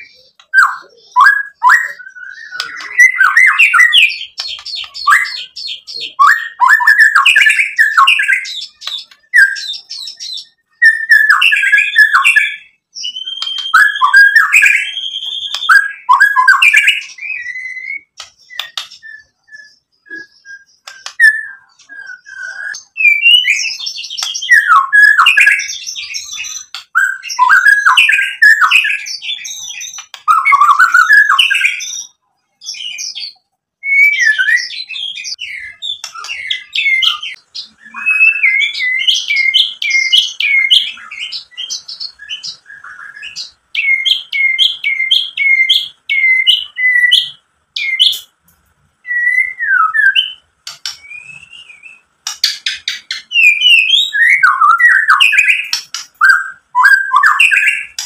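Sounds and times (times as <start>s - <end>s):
bird singing whistles and chatter: 0.0s - 48.4s, 49.0s - 58.0s.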